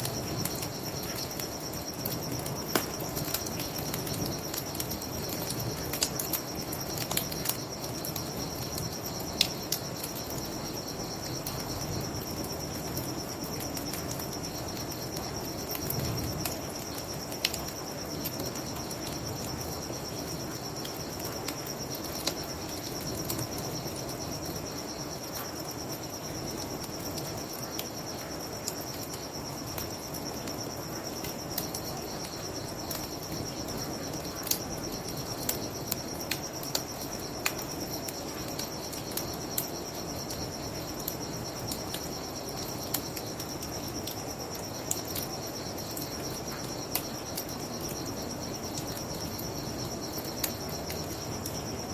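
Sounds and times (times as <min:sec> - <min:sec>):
crickets chirping: 0:00.0 - 0:51.9
wood fire crackling and popping: 0:00.0 - 0:51.9.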